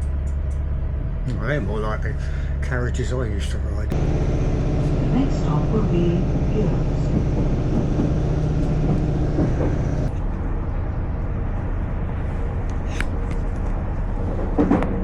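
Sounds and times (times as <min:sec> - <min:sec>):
train engine hum and rail rumble: 0:00.0 - 0:15.0.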